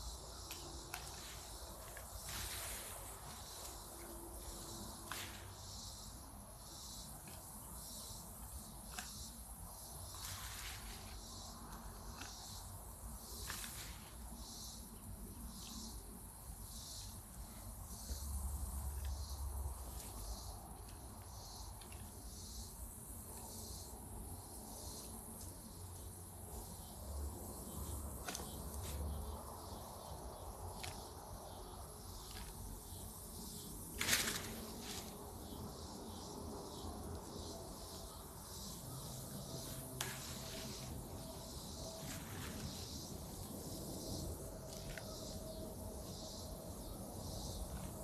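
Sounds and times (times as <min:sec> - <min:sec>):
insects chirping: 0:00.0 - 0:48.0.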